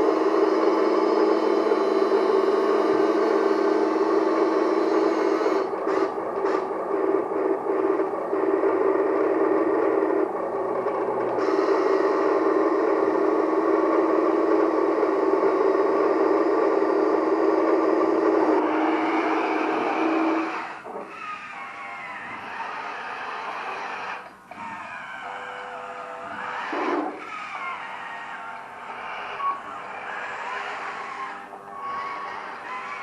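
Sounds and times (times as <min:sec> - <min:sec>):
hydraulic pump whining: 0:00.0 - 0:33.0.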